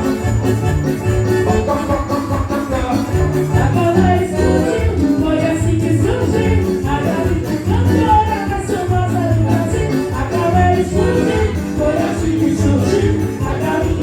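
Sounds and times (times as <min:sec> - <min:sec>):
live band playing upbeat tune: 0:00.0 - 0:14.0
tambourine: 0:00.0 - 0:14.0.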